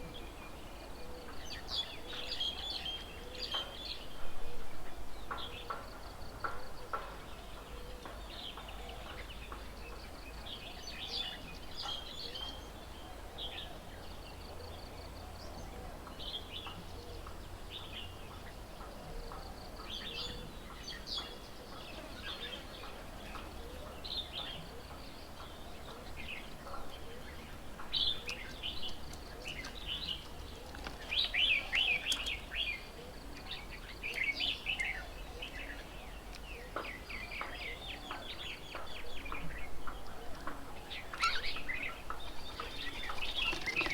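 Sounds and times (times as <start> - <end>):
wild birds chirping: 7.2 - 43.9.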